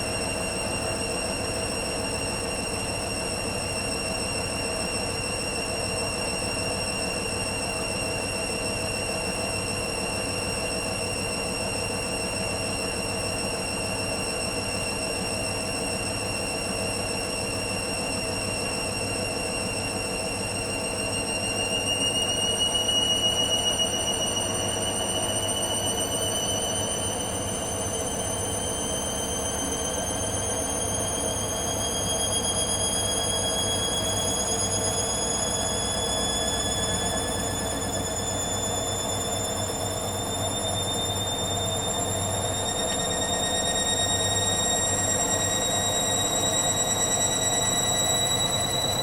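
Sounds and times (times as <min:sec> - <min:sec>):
washer-dryer motor whine: 0:00.0 - 0:49.0.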